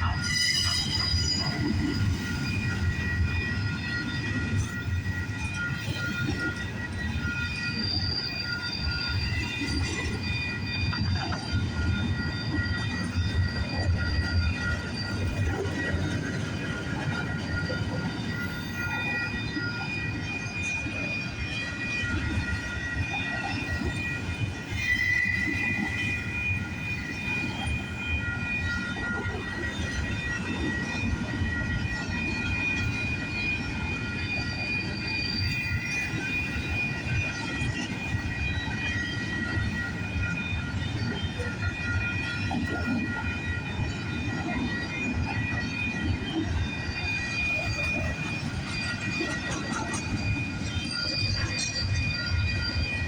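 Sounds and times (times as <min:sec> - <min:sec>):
steel wheel squeal: 0:00.0 - 0:53.0
train wheels rumbling on rail: 0:00.0 - 0:53.0.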